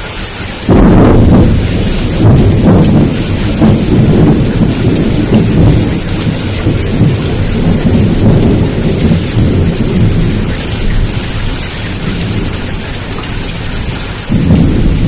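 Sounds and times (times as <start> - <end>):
heavy rain hissing: 0.0 - 15.0
thunder rumbling: 0.0 - 15.0.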